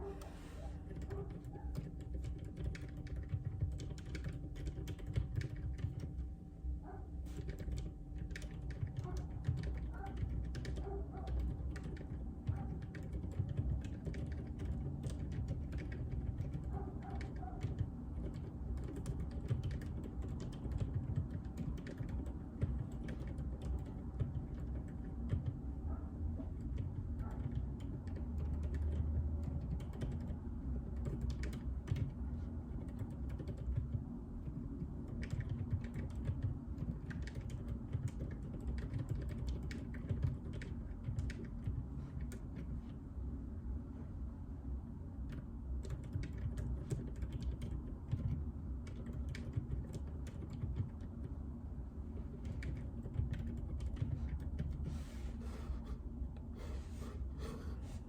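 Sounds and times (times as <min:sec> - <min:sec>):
soft mechanical keyboard clicks: 0:00.0 - 0:06.3, 0:07.3 - 0:25.8, 0:26.4 - 0:43.0, 0:45.2 - 0:51.5, 0:52.2 - 0:55.0.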